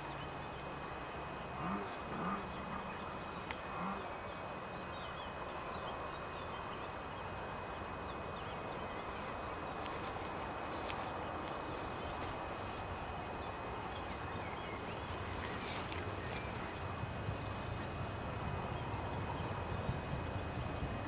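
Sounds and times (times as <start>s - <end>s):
faint birdsong chirps: 0.0s - 21.0s
outdoor background hiss: 0.0s - 21.0s.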